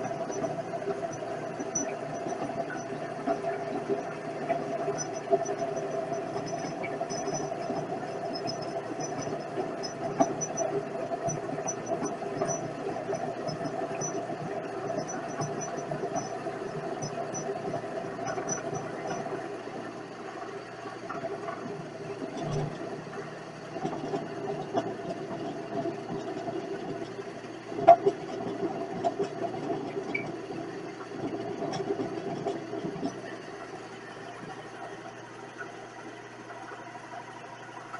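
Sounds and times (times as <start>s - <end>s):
light rattle and clicks: 0.0s - 35.8s.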